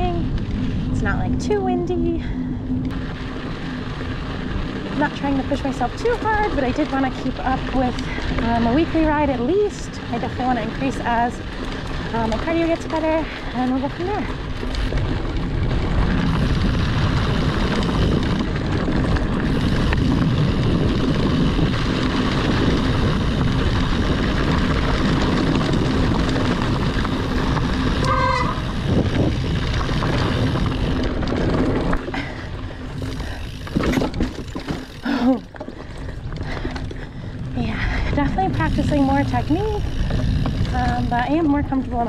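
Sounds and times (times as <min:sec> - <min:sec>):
bike rattling: 0:00.0 - 0:42.0
wind on microphone: 0:00.0 - 0:42.0
bike tyres crunching on gravel: 0:02.9 - 0:42.0.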